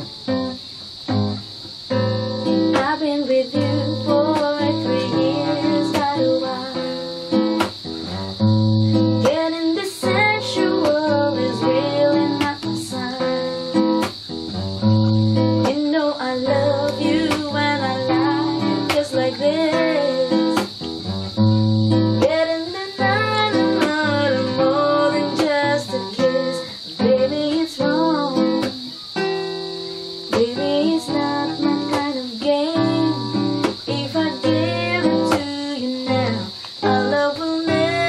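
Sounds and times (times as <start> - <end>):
classical guitar plucked: 0.0 - 38.0
woman singing: 2.4 - 7.8, 8.9 - 14.2, 15.5 - 20.8, 22.1 - 29.2, 30.3 - 38.0.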